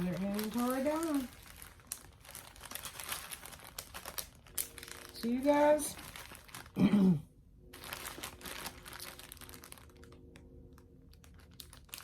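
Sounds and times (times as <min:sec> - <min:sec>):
plastic packaging crinkling: 0:00.0 - 0:07.0, 0:07.7 - 0:12.0.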